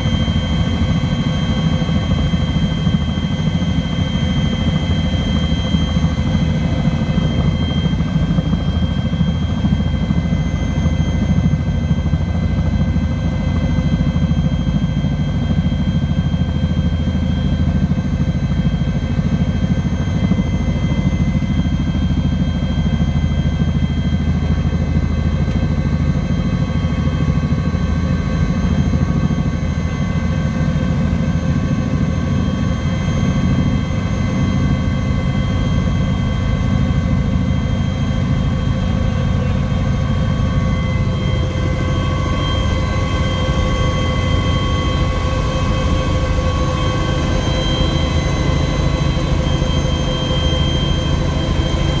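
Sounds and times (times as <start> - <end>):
helicopter rotor rumble: 0.0 - 52.0.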